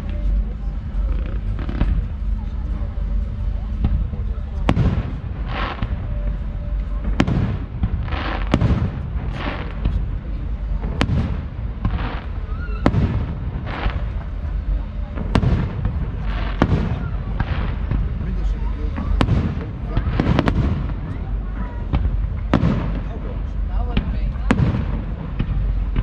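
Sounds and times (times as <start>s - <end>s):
rushing fireworks noise: 0.0s - 26.0s
fireworks bangs: 1.0s - 2.5s, 3.7s - 26.0s.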